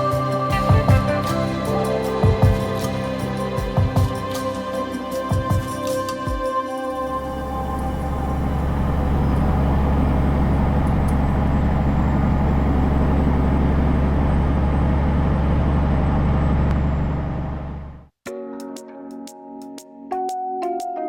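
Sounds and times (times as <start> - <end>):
road noise: 0.0 - 18.0
heavy truck engine drone: 0.0 - 18.1.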